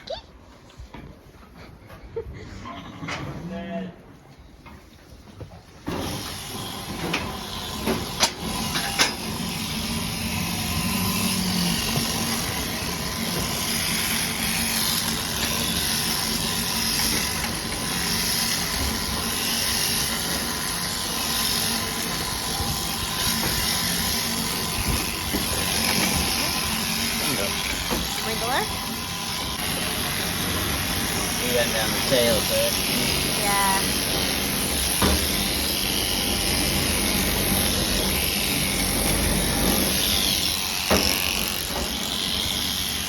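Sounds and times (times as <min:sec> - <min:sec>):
cutter hissing through wool: 0:05.8 - 0:43.0
electric shears motor whine: 0:05.8 - 0:43.0.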